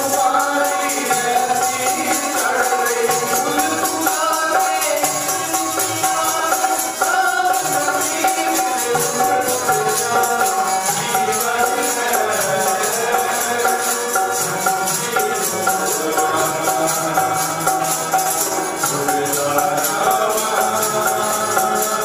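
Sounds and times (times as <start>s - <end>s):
jingling percussion: 0.0s - 22.0s.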